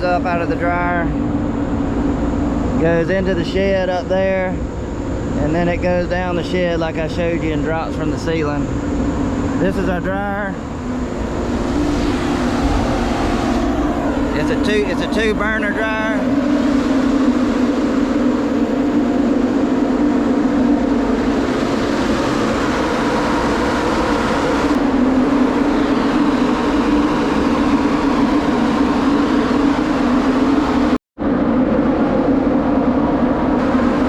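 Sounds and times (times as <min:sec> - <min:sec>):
grain dryer fans and burners droning: 0:00.0 - 0:34.0.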